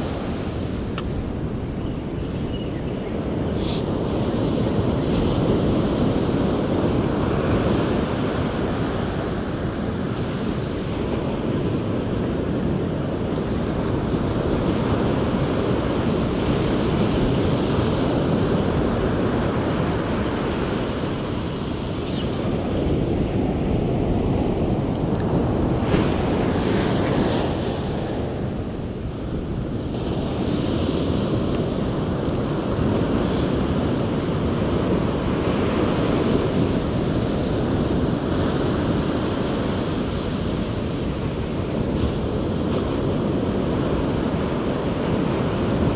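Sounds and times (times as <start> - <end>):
ocean surf breaking on sand: 0.0 - 45.9
wind buffeting microphone: 0.0 - 45.9.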